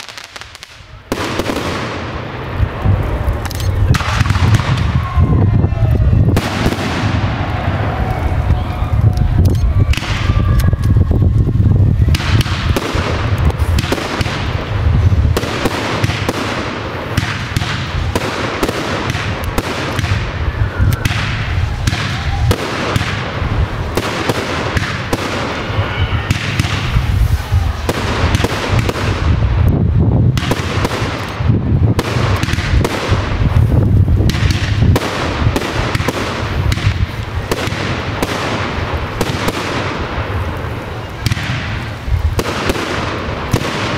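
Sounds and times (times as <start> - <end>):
fireworks barrage: 0.0 - 43.9.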